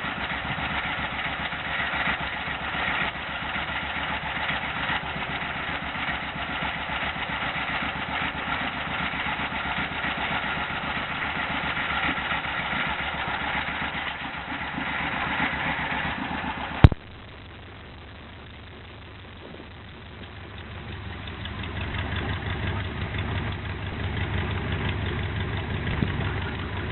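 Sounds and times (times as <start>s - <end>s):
engine idling: 0.0s - 26.9s.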